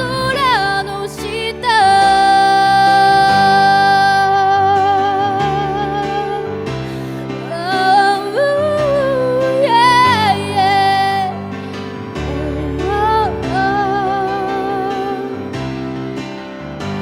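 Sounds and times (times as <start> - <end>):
woman singing pop ballad: 0.0 - 15.5
instrumental accompaniment: 0.0 - 17.0.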